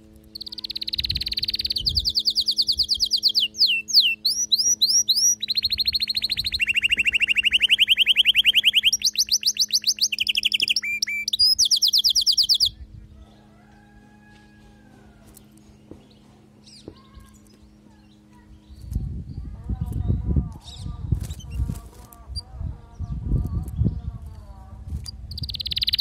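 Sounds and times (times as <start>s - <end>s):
low hum: 0.0s - 26.0s
canary singing trills: 0.2s - 14.3s, 15.3s - 26.0s.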